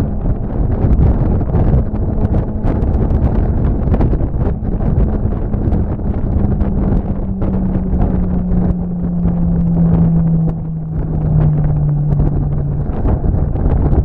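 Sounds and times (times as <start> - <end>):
motor humming: 0.0 - 14.0
wind buffeting microphone: 0.0 - 14.0.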